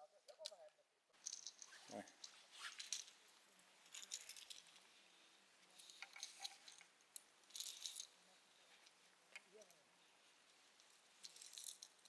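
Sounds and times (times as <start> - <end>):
faint rustles: 1.2 - 12.0
light clinks: 1.2 - 12.0.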